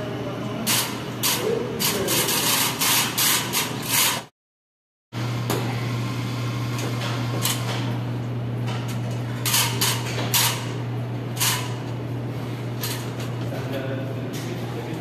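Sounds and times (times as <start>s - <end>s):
low machine hum: 0.0s - 2.8s, 5.2s - 15.0s.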